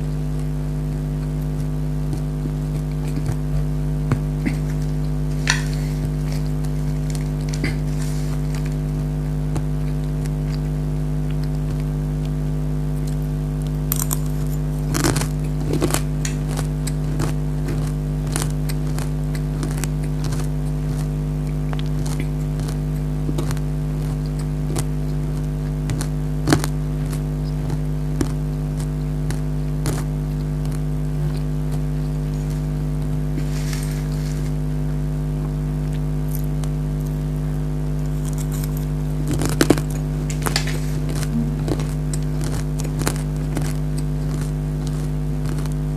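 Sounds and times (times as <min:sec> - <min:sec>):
crunchy snack chewing: 0:00.0 - 0:45.9
steady low hum: 0:00.0 - 0:45.9.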